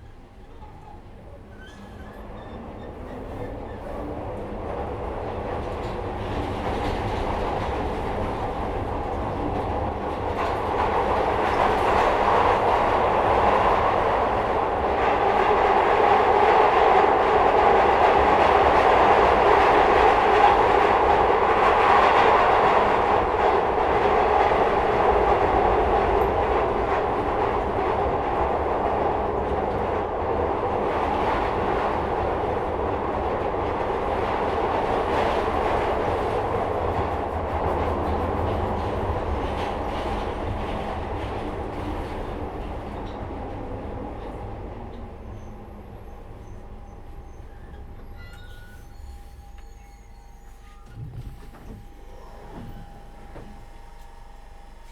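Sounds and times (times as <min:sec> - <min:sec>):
subway train running noise: 0:00.0 - 0:54.9.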